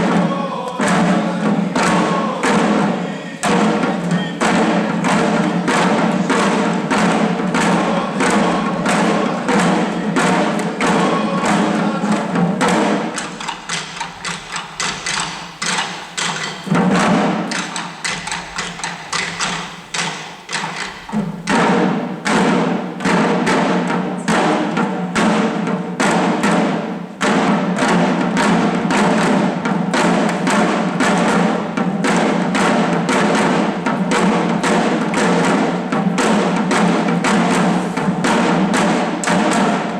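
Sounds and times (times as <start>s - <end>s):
small drums beaten fast: 0.0s - 39.9s.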